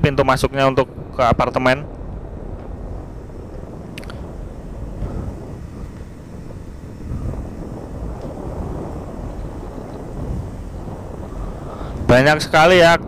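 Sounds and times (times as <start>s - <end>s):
motorcycle engine and road drone: 0.0s - 13.0s
wind rumble on microphone: 0.0s - 13.0s.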